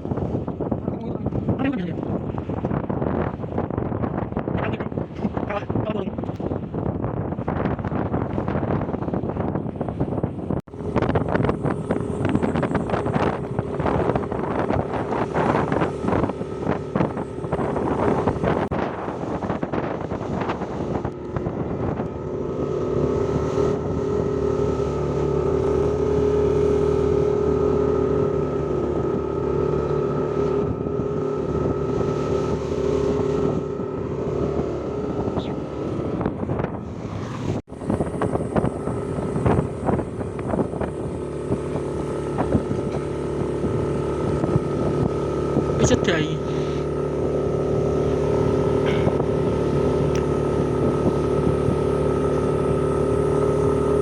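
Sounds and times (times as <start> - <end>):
wind buffeting microphone: 0.0 - 54.0
vehicle engine running: 10.7 - 54.0.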